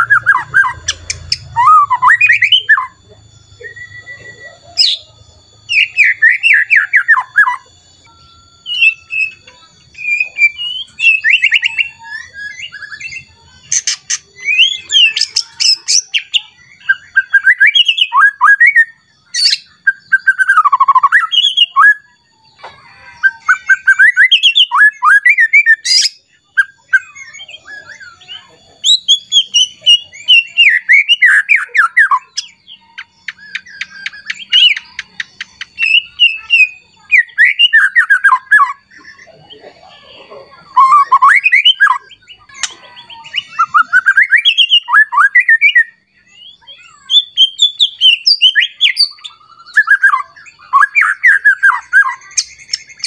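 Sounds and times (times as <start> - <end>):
bird singing whistled phrases: 0.0 - 53.0.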